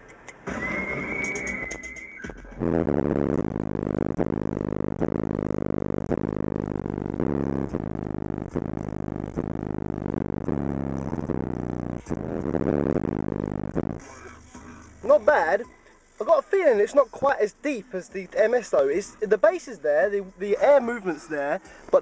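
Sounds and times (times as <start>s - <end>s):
bass-heavy music through subwoofer: 0.4s - 22.0s.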